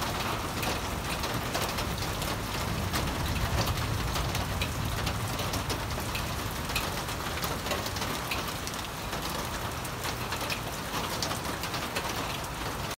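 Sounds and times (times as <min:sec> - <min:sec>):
raindrops tapping close by: 0:00.0 - 0:12.9
steady rainfall: 0:00.0 - 0:12.9.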